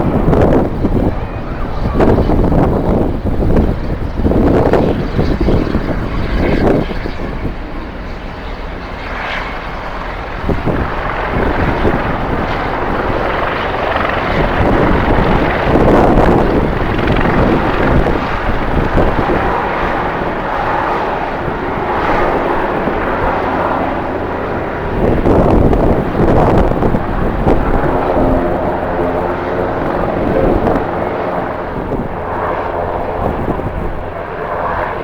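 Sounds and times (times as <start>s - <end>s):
jet engines running: 0.0s - 35.0s
wind buffeting microphone: 0.0s - 35.0s.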